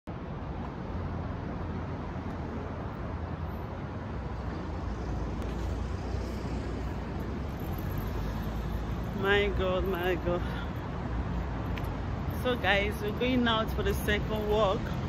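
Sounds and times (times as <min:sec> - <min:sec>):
low traffic rumble: 0:00.1 - 0:15.0.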